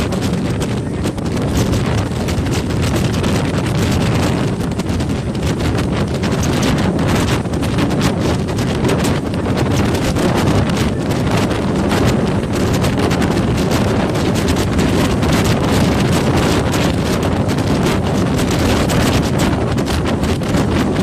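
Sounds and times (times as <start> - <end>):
moving vehicle rumble: 0.0 - 21.0
wind buffeting microphone: 0.0 - 21.0.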